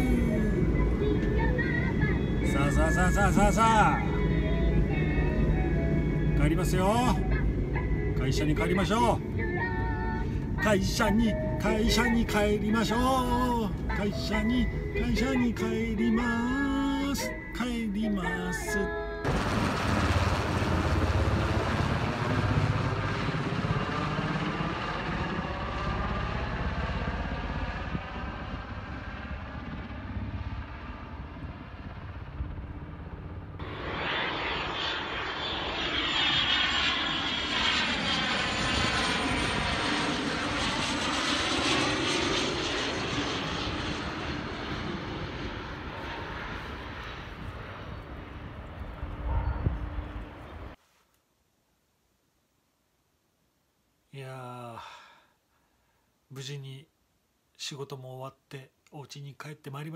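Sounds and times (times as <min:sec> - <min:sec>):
helicopter flying overhead: 0:00.0 - 0:17.6, 0:18.2 - 0:50.8
airplane passing low overhead: 0:00.0 - 0:50.8.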